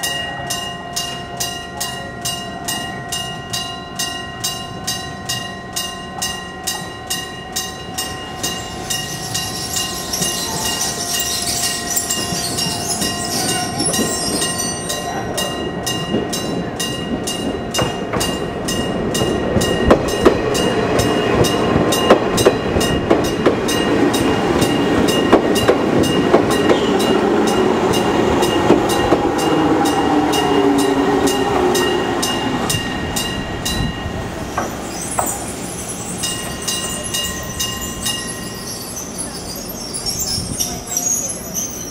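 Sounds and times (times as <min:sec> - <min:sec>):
crossing alarm: 0:00.0 - 0:34.2
level crossing bell ringing: 0:00.0 - 0:34.2, 0:35.2 - 0:40.9
train wheels clacking: 0:00.6 - 0:41.8.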